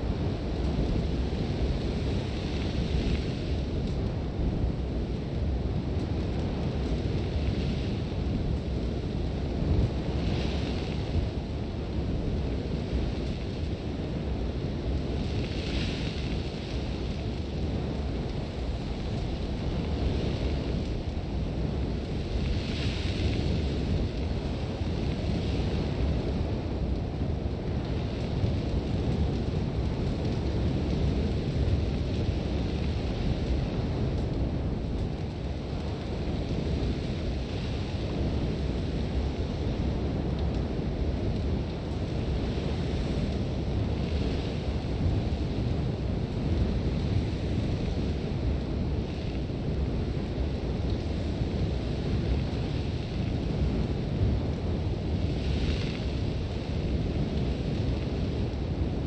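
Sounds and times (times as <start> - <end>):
hissing sand gusts: 0.0 - 3.8, 4.6 - 59.0
wind rumble against tent: 0.0 - 59.0.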